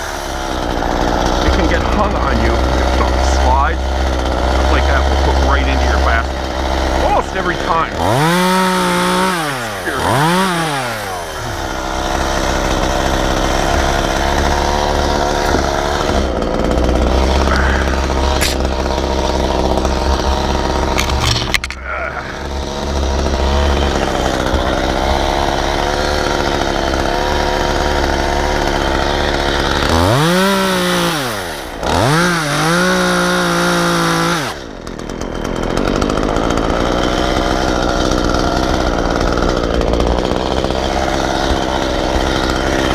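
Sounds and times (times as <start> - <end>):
chainsaw cutting and revving: 0.0 - 42.9.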